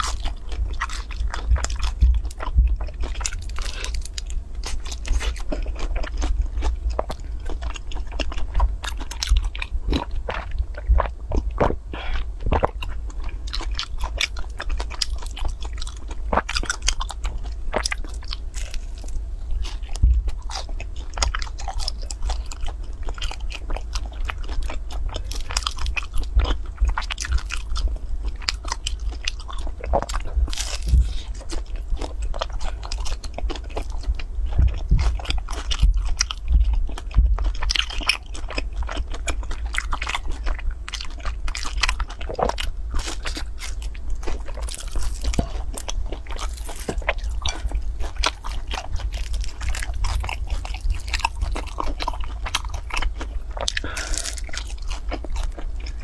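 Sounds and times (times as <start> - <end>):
person chewing sticky cake: 0.0 - 56.0.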